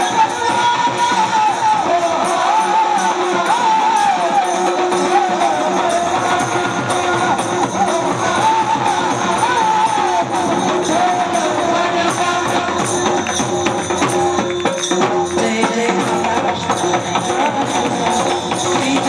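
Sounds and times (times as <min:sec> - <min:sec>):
jingling hand percussion: 0:00.0 - 0:19.0.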